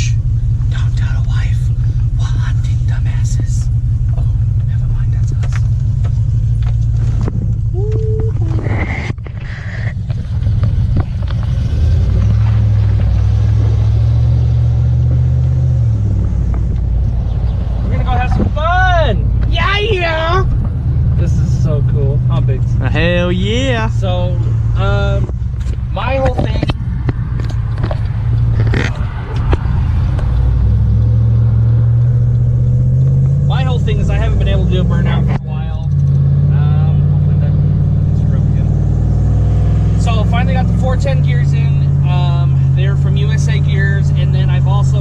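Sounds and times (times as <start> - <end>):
pickup engine rumbling: 0.0 - 45.0.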